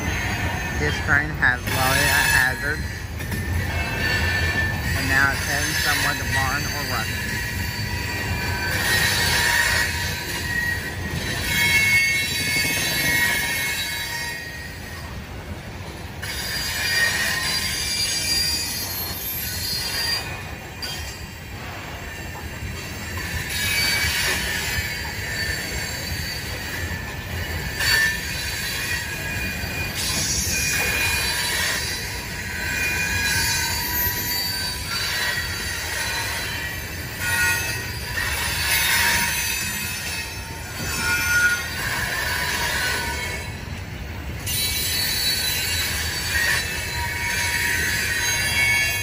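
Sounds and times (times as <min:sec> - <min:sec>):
low rumble of wheels on track: 0:00.0 - 0:49.0
steel wheels squealing on rails: 0:00.0 - 0:49.0.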